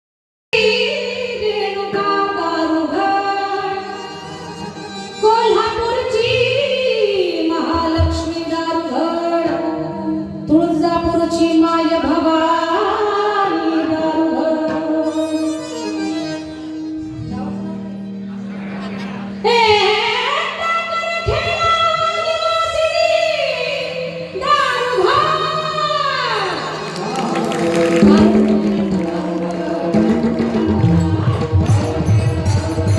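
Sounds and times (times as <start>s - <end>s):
woman singing devotional song: 0.6s - 4.4s, 5.2s - 15.3s, 19.4s - 32.9s.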